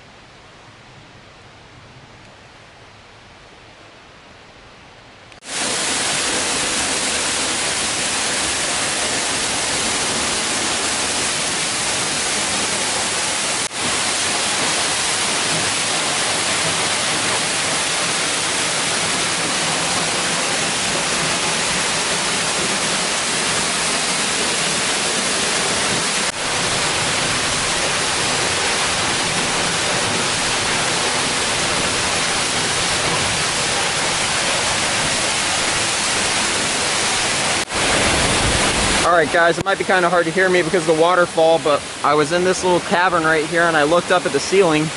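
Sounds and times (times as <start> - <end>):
waterfall rushing: 5.4 - 44.9.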